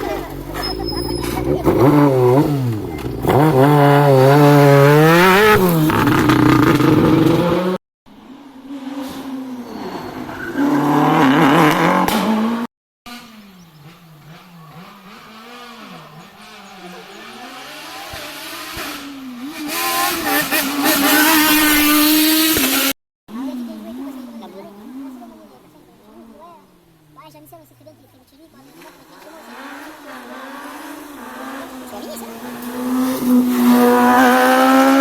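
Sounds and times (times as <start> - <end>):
rally car engines revving: 0.0 - 35.0.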